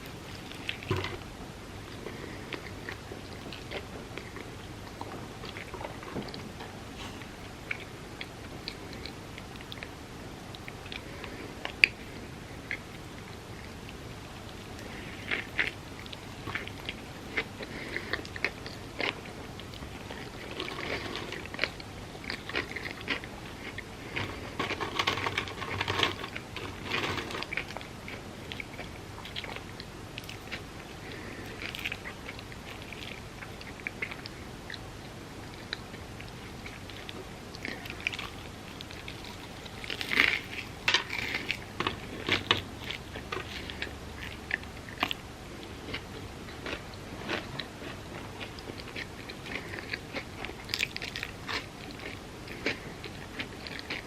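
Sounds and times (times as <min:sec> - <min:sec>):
moist chewing clicks: 0:00.0 - 0:54.0.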